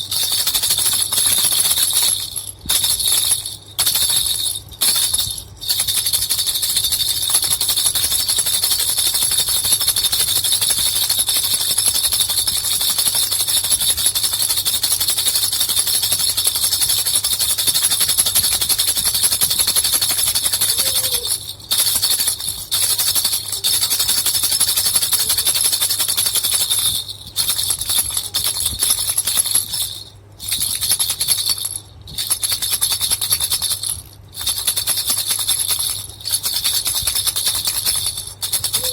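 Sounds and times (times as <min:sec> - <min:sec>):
baby rattle bells jingling: 0:00.0 - 0:38.9.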